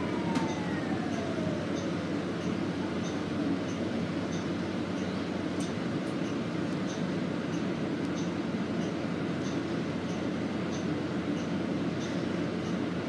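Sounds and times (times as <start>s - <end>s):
bus running hum: 0.0s - 13.0s.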